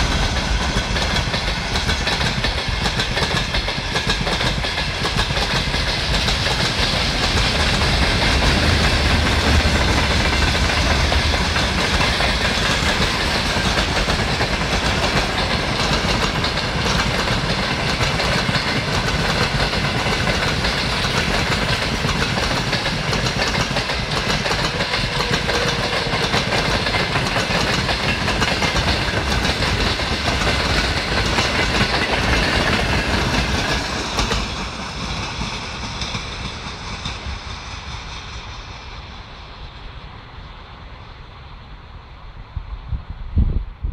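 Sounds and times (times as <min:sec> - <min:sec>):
train wheels clattering over rail joints: 0:00.0 - 0:38.6.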